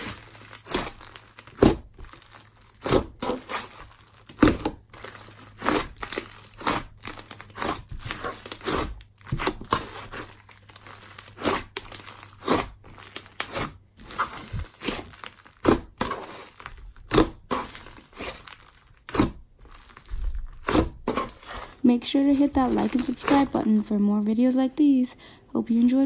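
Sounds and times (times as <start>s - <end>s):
slime popping and crackling: 0.0s - 23.8s.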